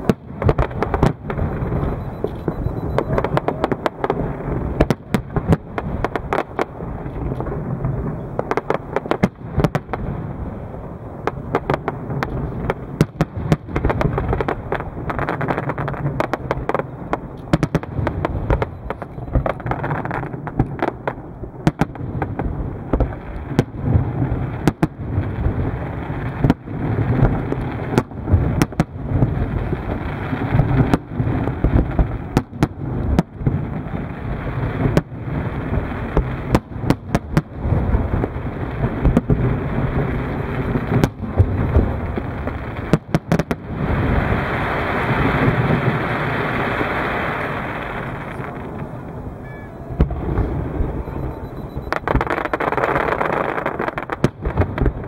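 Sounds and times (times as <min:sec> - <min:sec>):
fireworks bangs: 0:00.0 - 0:55.0
low rumble of blasts: 0:00.0 - 0:55.0.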